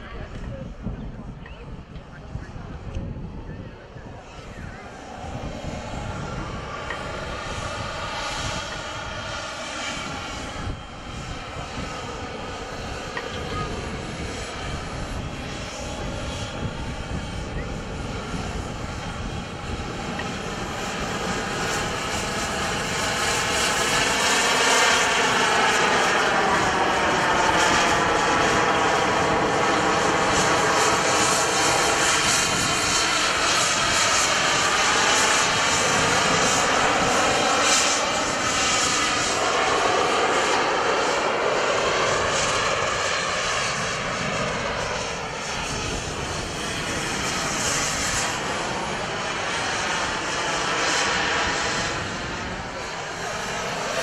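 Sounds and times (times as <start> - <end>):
model jet turbines whining: 0.0 - 54.0.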